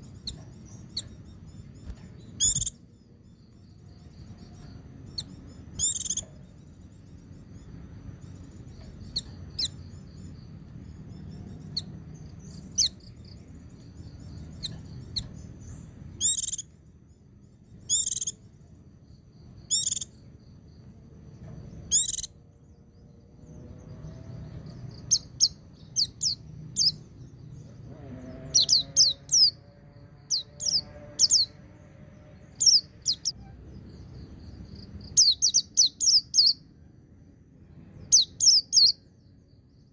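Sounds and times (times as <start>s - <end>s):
white-eye bird chirping: 0.0s - 20.3s, 21.4s - 34.2s, 34.8s - 36.7s, 38.0s - 39.3s
faint low hum: 0.0s - 39.9s.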